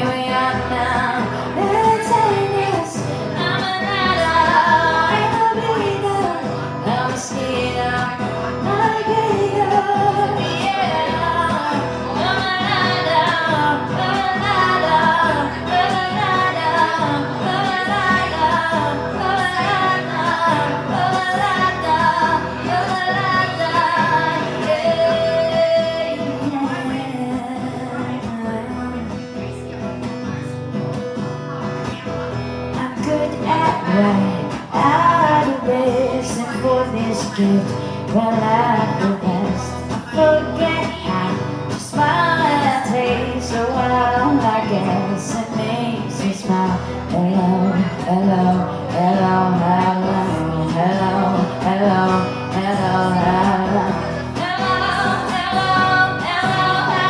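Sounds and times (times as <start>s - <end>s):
woman singing: 0.0s - 31.0s, 31.6s - 57.0s
guitar accompaniment: 0.0s - 57.0s.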